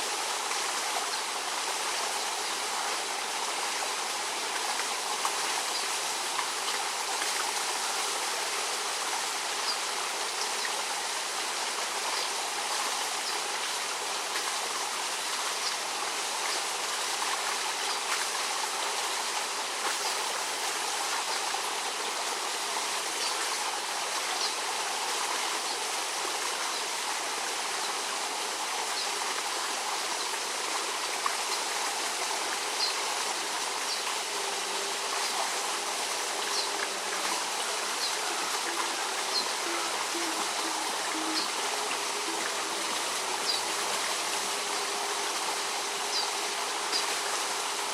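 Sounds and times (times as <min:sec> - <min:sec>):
flowing water rushing: 0:00.0 - 0:47.9.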